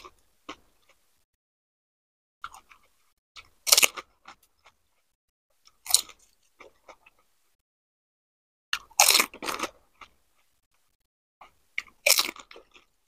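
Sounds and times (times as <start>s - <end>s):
crunchy chewing: 0.0s - 1.2s, 2.4s - 7.6s, 8.8s - 13.0s.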